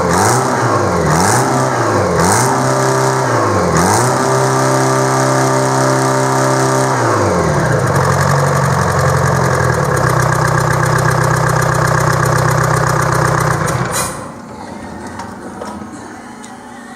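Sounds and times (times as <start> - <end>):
diesel engine running: 0.0 - 14.5.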